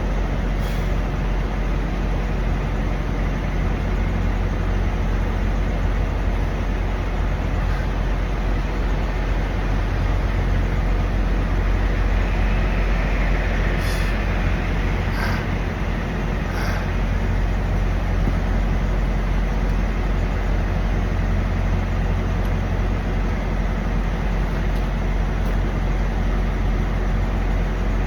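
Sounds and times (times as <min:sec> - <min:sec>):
diesel truck engines idling: 0:00.0 - 0:28.0.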